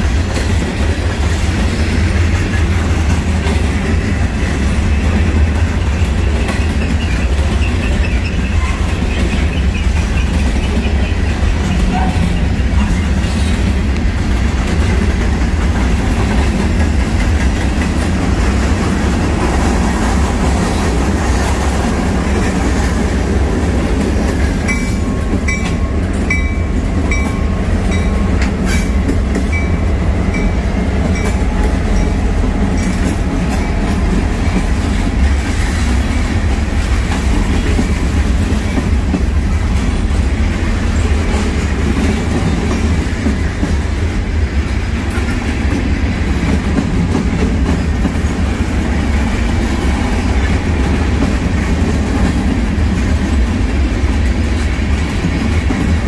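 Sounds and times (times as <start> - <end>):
freight train rumbling past: 0.0 - 56.0
wheels clacking over rails: 0.0 - 56.0.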